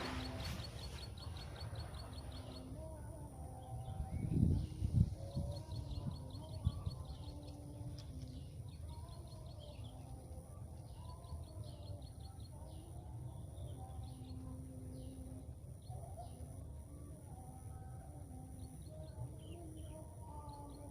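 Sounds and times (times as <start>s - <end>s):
small birds chirping: 0.0s - 16.8s
low outdoor rumble: 0.0s - 20.9s.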